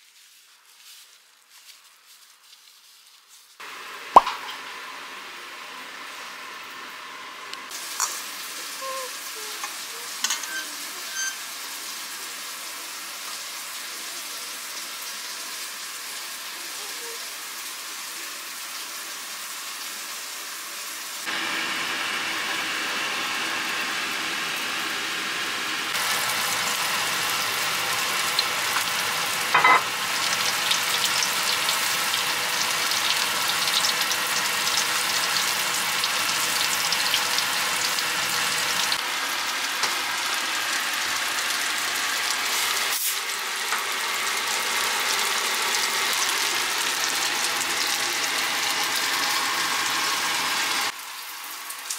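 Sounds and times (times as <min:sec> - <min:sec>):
oil sizzling in frying pan: 0:03.4 - 0:51.9.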